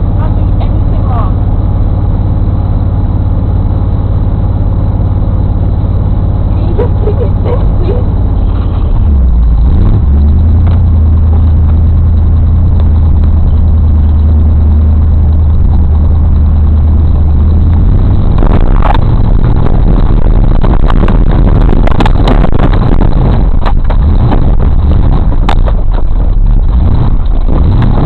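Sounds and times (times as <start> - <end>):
off-road engine droning under load: 0.0 - 28.0.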